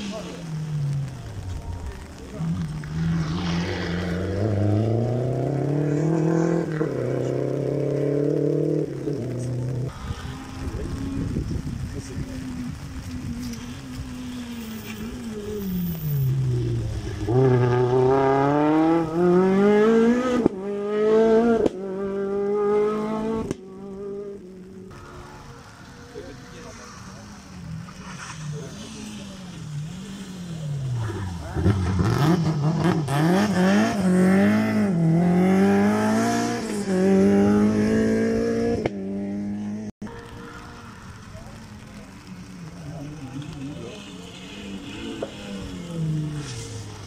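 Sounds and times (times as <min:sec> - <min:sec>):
rally car engine accelerating: 0:00.0 - 0:39.9.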